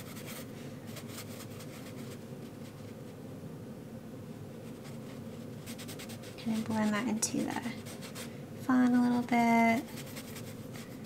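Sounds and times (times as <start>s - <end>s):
brush scraping on paper: 0.0s - 3.2s, 4.6s - 11.0s
steady low hum: 0.0s - 11.0s.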